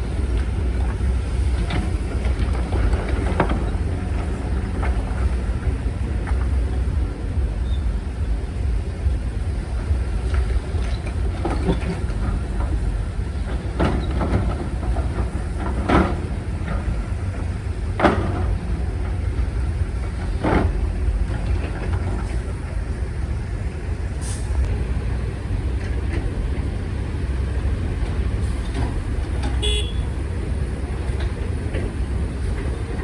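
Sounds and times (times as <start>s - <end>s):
heavy machinery diesel rumble: 0.0s - 33.0s.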